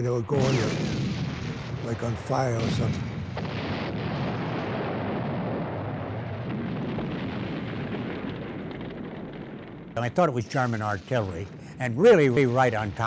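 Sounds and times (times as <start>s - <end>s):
artillery explosions rumbling: 0.0s - 13.0s.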